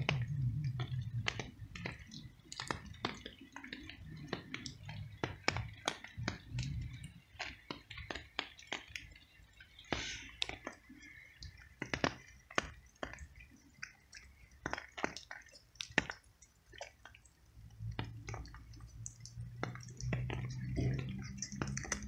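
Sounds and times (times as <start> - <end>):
cat chewing and lapping food: 0.0 - 22.0.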